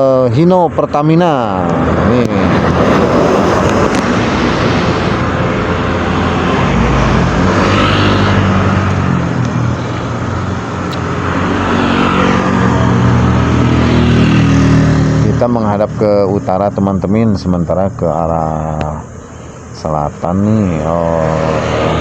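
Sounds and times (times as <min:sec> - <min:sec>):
passing traffic: 0:00.0 - 0:22.0
truck diesel engine passing: 0:00.0 - 0:22.0.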